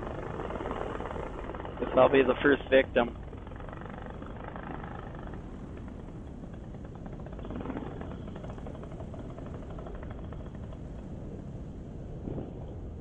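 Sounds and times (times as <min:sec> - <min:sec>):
paramotor engine running: 0:00.0 - 0:13.0
wind rushing over microphone: 0:00.0 - 0:13.0.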